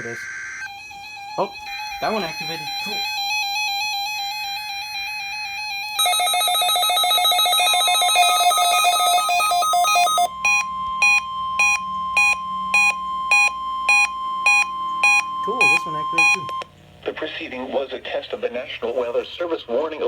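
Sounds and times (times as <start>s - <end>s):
pulsing alarm: 0.0s - 16.8s
steady alarm tone: 0.0s - 16.8s
receiver beeping: 0.0s - 17.7s
fast warbling alarm: 0.0s - 17.9s.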